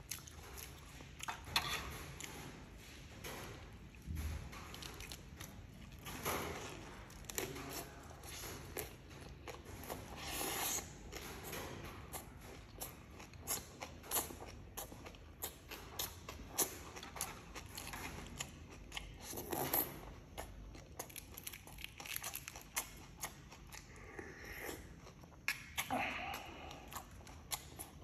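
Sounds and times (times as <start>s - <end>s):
person chewing and crunching: 0.0s - 2.4s, 3.9s - 28.0s.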